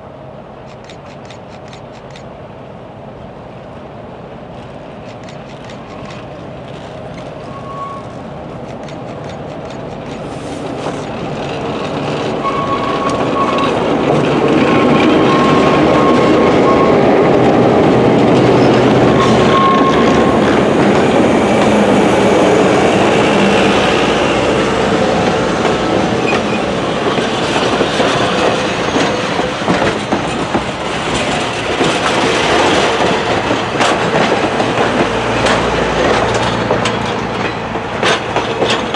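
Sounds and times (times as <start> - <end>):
diesel locomotive passing: 0.0 - 38.9
train wheels clicking over rail joints: 0.6 - 2.3, 4.5 - 38.9.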